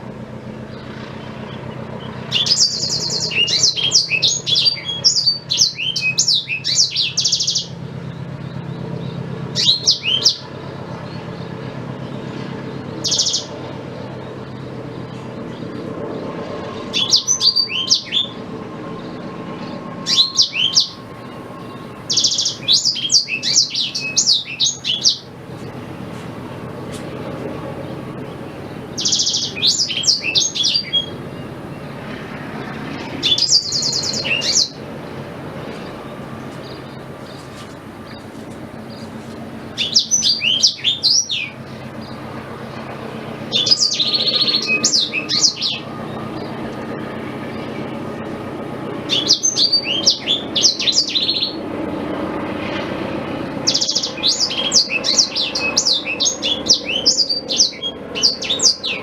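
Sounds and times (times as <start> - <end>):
canary singing trills: 0.7 - 47.9, 49.0 - 51.6, 53.6 - 59.0.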